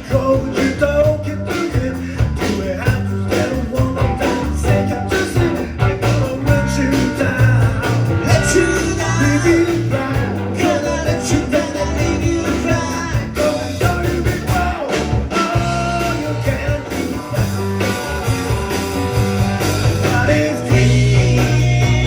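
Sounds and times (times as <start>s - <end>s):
person singing: 0.0s - 17.6s, 20.0s - 22.0s
live rock band playing: 0.0s - 22.0s.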